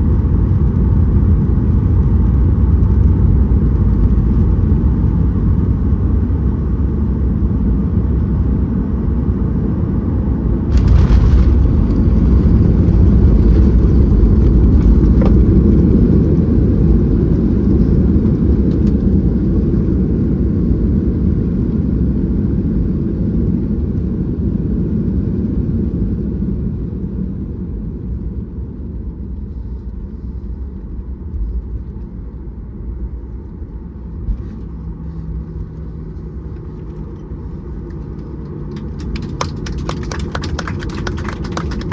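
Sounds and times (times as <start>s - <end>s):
airliner cabin noise during landing: 0.0s - 41.9s.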